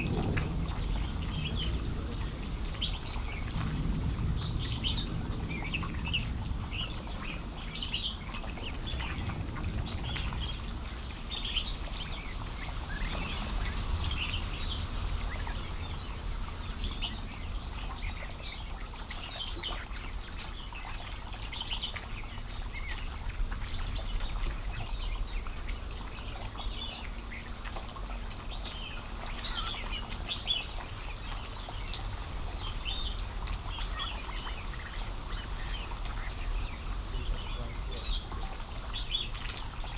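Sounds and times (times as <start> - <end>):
low background rumble: 0.0 - 39.9
songbirds chirping: 0.0 - 39.9.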